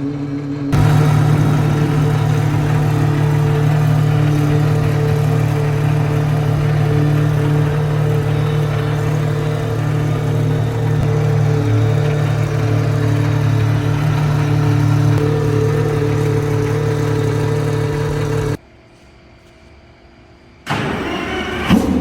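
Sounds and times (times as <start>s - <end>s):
car engine running steadily: 0.0s - 18.6s.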